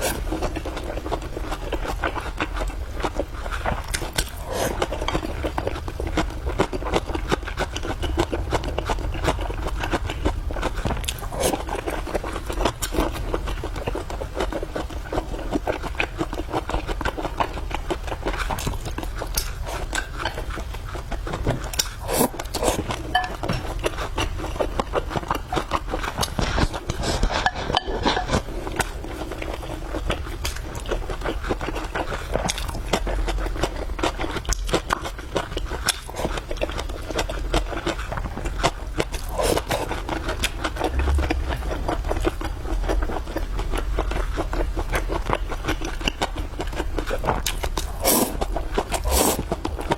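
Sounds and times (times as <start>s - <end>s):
chewing and biting food: 0.0s - 49.9s.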